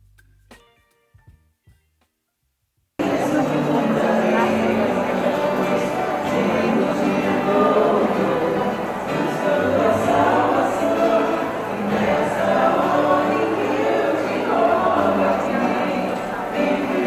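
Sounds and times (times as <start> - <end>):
choir singing: 3.0 - 17.0
musical accompaniment: 3.0 - 17.0.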